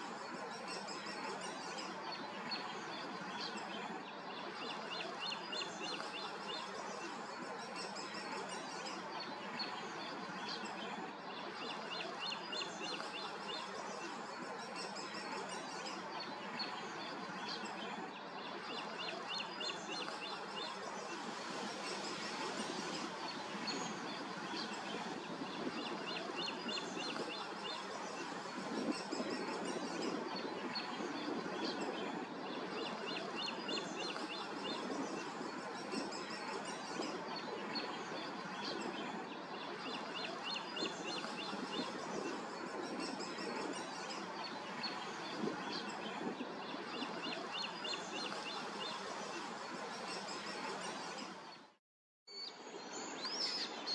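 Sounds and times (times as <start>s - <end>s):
birds singing: 0.0s - 51.7s.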